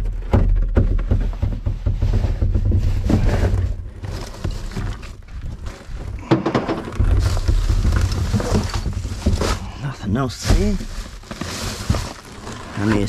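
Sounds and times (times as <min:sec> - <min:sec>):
rummaging through rubbish in bin: 0:02.3 - 0:13.0.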